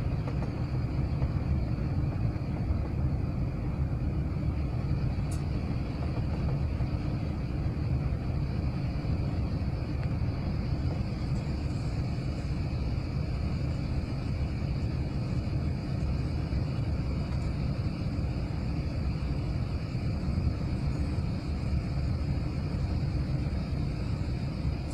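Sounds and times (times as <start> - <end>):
aircraft cabin engine rumble: 0.0 - 24.9
faint steady whine: 0.0 - 24.9.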